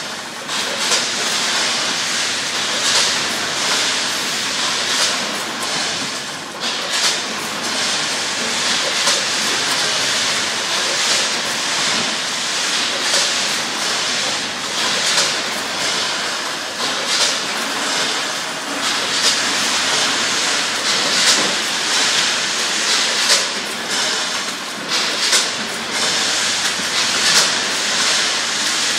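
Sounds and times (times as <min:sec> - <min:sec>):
machine clatter and hiss: 0:00.0 - 0:28.9.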